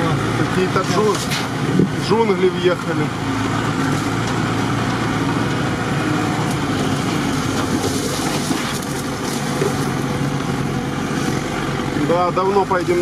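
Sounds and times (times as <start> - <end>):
vehicle engine running slowly: 0.0 - 13.0
branches scraping against vehicle: 0.5 - 5.0, 6.3 - 13.0.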